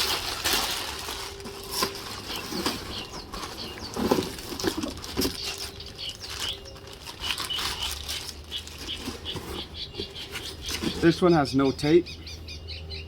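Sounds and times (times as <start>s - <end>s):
packaging rustling and crinkling: 0.0s - 11.2s.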